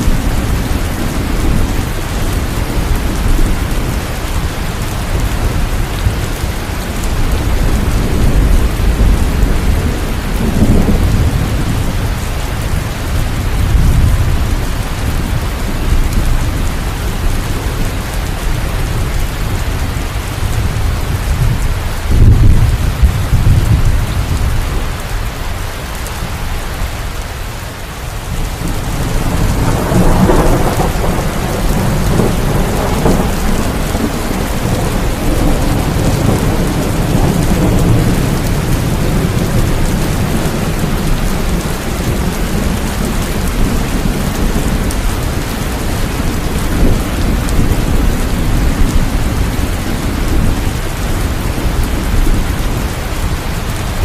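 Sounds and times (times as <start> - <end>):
thunder rumbling: 0.0 - 25.3, 28.1 - 54.0
heavy rain: 0.0 - 54.0.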